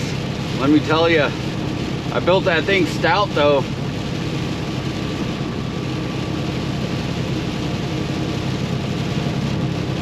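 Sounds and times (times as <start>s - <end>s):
rain: 0.0s - 10.0s
truck engine hum: 0.0s - 10.0s
tyres hissing on wet road: 0.0s - 10.0s.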